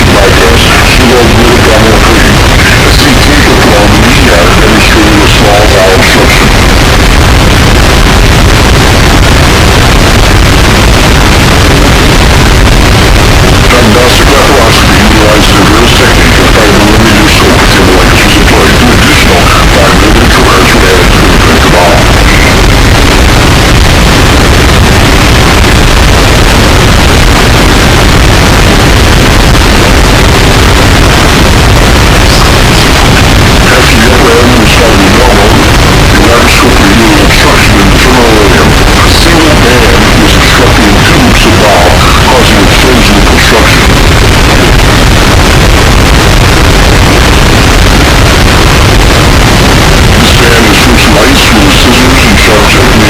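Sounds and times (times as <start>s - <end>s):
harsh distorted noise music: 0.0s - 53.0s.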